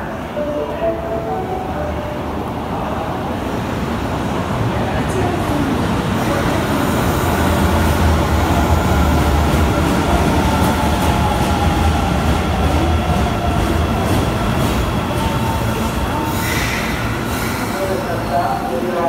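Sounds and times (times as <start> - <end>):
train wheels rumbling on rail: 3.3 - 19.0.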